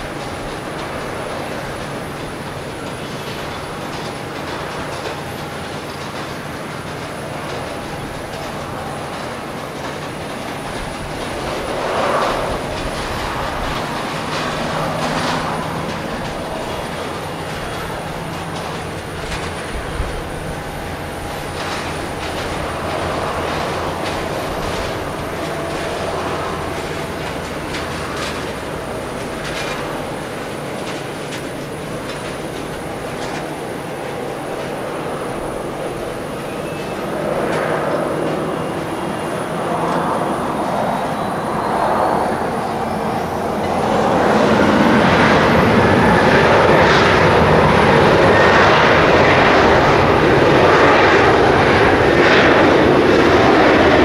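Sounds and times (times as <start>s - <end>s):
jet engines rumbling at taxi: 0.0s - 54.0s.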